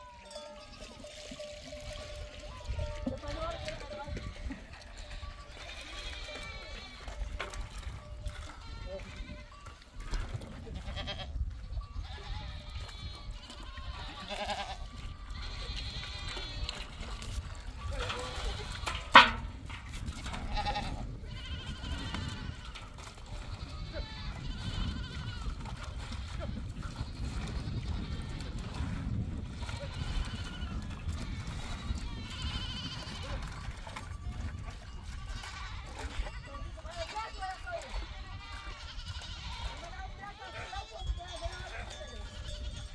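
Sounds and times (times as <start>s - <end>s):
goats bleating: 0.0s - 19.5s, 20.3s - 28.6s, 29.5s - 34.2s, 34.8s - 42.9s
wind rumbling on microphone: 1.3s - 42.9s.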